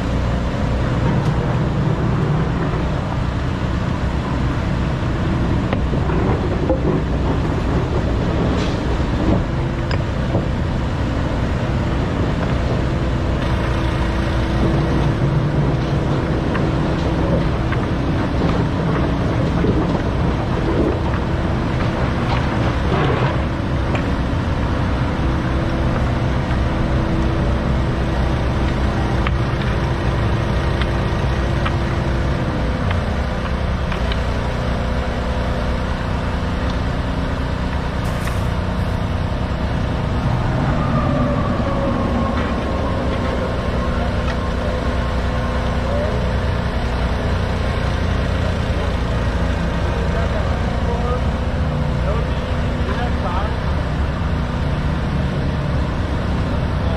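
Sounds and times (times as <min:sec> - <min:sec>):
excavator diesel engine: 0:00.0 - 0:56.9.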